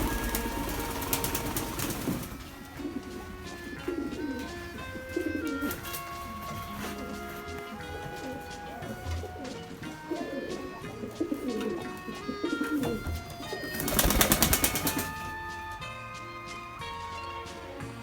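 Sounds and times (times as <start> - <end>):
wings fluttering: 0.0 - 15.8
pigeons cooing: 0.0 - 15.9
background music: 0.0 - 18.0.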